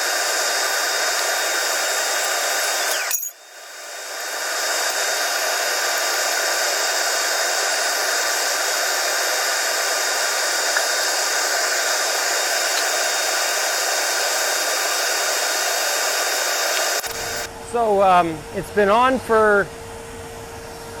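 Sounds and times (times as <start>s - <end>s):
furnace burner roaring: 0.0s - 21.0s.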